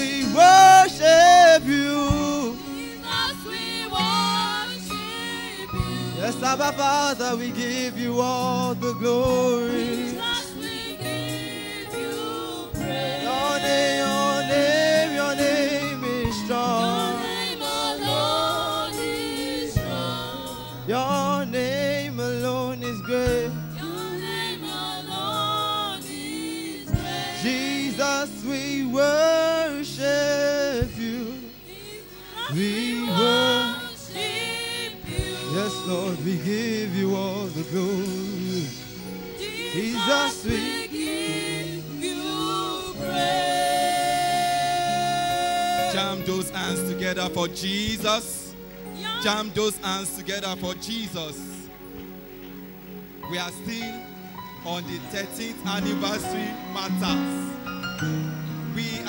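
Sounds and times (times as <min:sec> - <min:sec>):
gospel group singing: 0:00.0 - 0:51.8, 0:53.2 - 0:59.0.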